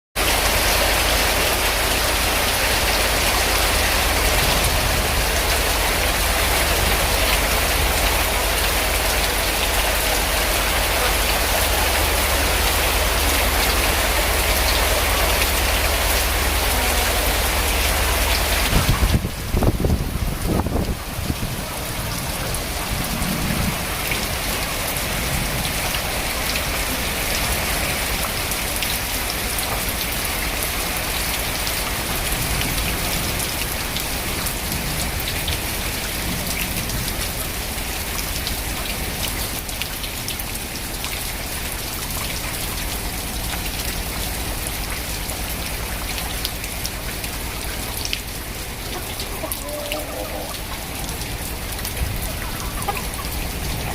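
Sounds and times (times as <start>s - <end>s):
heavy rain pouring: 0.2s - 53.9s.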